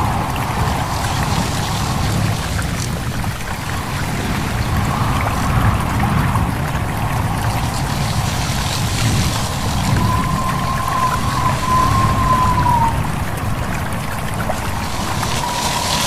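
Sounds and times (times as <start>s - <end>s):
low rumble: 0.0s - 16.0s
stream babbling over stones: 0.0s - 16.0s.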